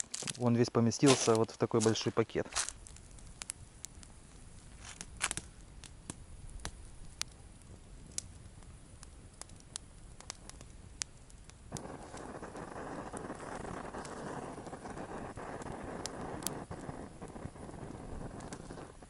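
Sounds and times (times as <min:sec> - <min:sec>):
campfire crackling: 0:00.0 - 0:19.0
steady hiss: 0:00.0 - 0:19.0.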